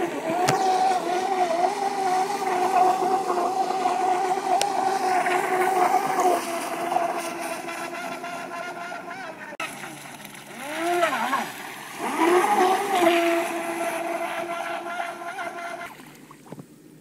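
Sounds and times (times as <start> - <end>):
electric motor whining: 0.0 - 9.5, 10.5 - 15.9.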